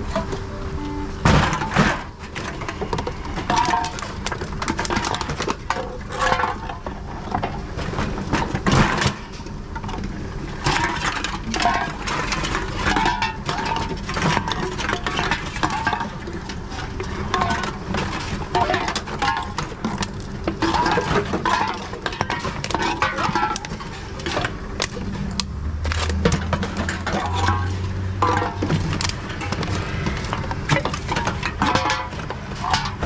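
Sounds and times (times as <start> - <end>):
cans and bottles clattering: 1.2 - 10.0, 10.6 - 33.0.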